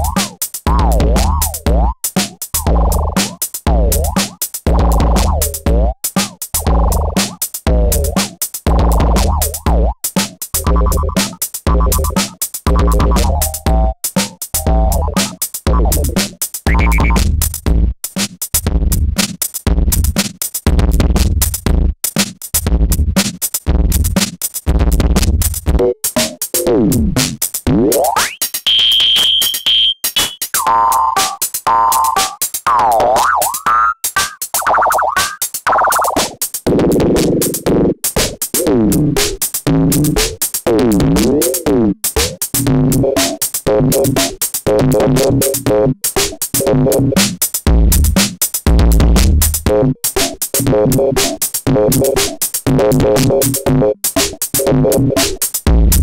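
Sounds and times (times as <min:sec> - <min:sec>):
ring-modulated drum machine beat: 0:00.0 - 0:56.0.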